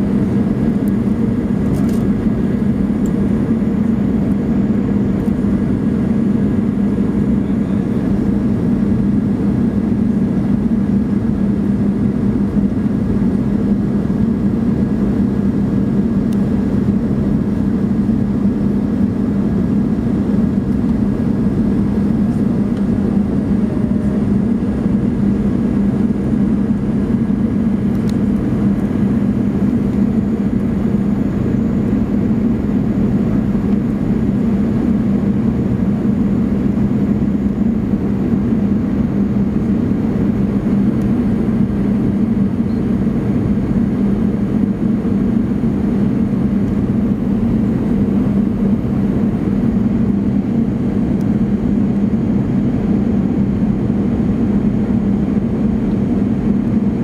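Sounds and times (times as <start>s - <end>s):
airplane engine drone: 0.0s - 57.0s.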